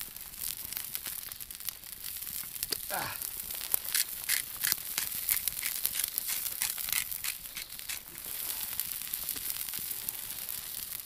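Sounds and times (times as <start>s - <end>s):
hot fat popping and crackling: 0.0s - 11.0s.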